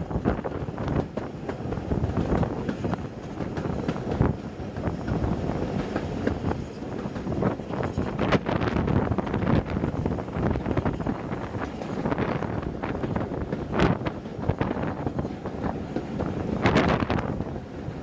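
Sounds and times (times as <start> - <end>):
train wheels knocking on rails: 0.0 - 17.6
wind buffeting microphone: 0.0 - 18.0.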